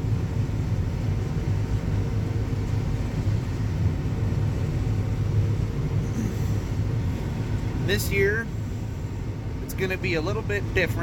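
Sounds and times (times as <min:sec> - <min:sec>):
combine harvester rumbling: 0:00.0 - 0:11.0.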